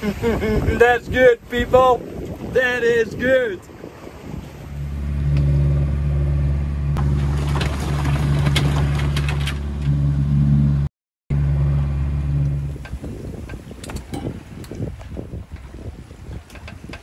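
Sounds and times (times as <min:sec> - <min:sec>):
boat engine humming: 0:00.0 - 0:17.0
wind: 0:00.0 - 0:17.0.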